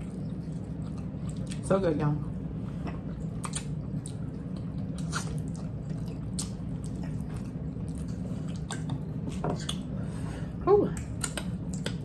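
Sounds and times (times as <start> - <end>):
low hum: 0.0 - 12.0
people chewing with lip smacks: 0.0 - 12.0.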